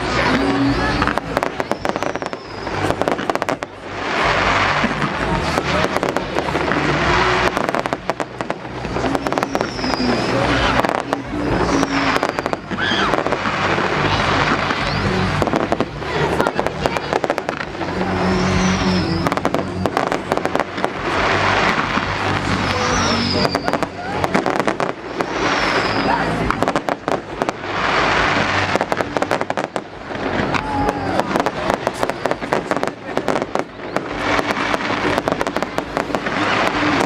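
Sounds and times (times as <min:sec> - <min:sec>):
fireworks crackling bangs: 0:00.0 - 0:37.0
fireworks high whistles: 0:00.0 - 0:37.0.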